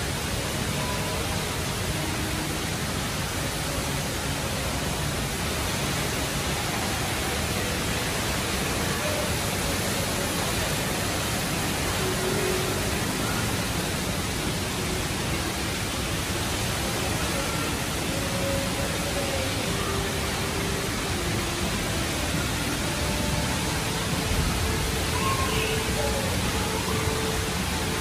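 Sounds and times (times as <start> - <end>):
indoor waterfall rushing: 0.0 - 28.0.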